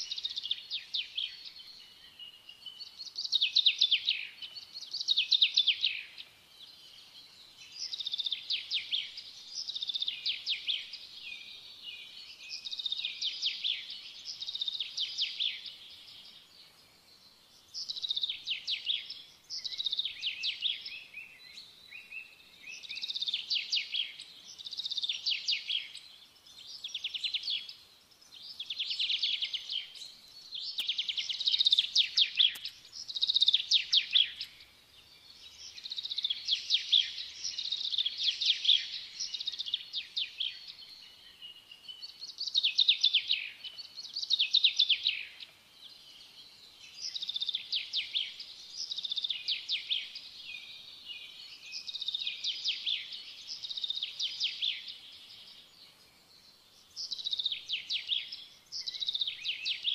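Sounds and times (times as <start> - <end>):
songbird singing trilled notes: 0.0 - 59.9.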